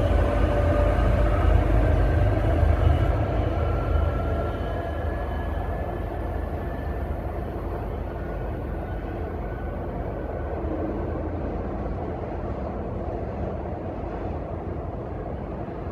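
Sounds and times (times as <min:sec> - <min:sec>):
train rumbling down track: 0:00.0 - 0:15.9.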